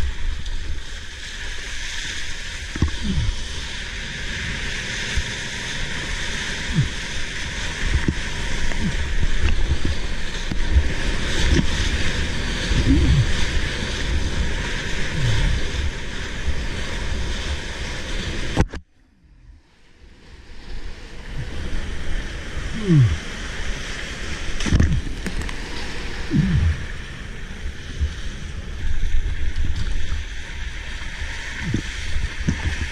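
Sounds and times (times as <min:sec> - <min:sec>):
surf splashing against hull: 0:00.0 - 0:18.8, 0:20.0 - 0:32.9
wind buffeting microphone: 0:02.7 - 0:18.7, 0:20.9 - 0:32.9.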